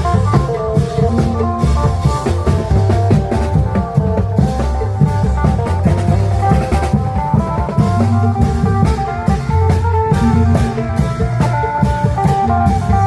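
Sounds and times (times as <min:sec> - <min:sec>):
deep bass line: 0:00.0 - 0:13.0
drums with dance beat: 0:00.0 - 0:13.0.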